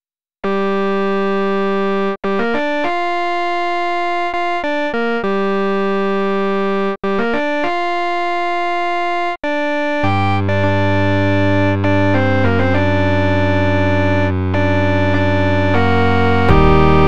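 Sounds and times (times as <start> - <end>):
synthesized keyboard melody: 0.4 - 17.0.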